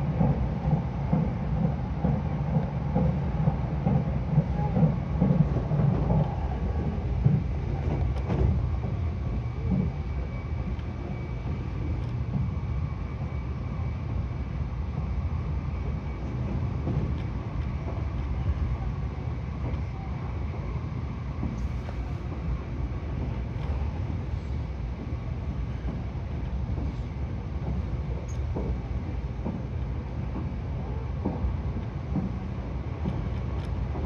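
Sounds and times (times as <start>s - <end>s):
train cabin running rumble: 0.0s - 34.0s.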